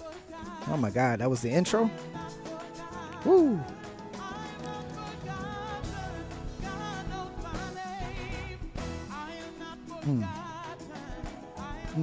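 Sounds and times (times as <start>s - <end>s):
church band playing gospel: 0.0s - 12.0s.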